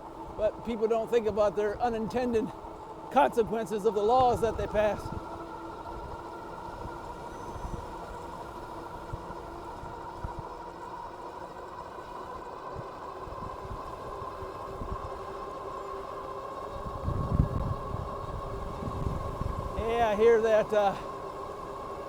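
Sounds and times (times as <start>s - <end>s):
electric motors whining: 0.0s - 22.0s
tyres and wind rumble: 0.0s - 22.0s.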